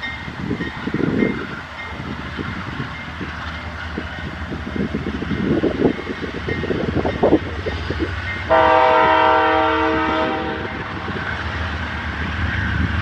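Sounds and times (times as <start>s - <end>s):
locomotive rumble: 0.0s - 13.0s.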